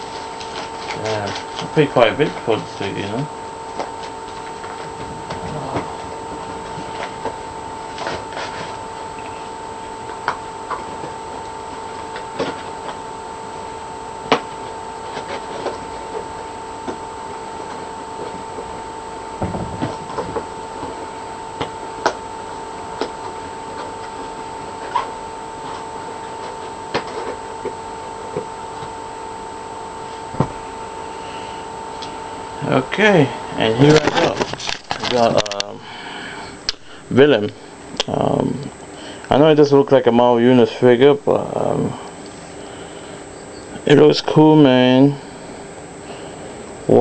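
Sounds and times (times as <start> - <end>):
steady hum and hiss: 0.0 - 47.0.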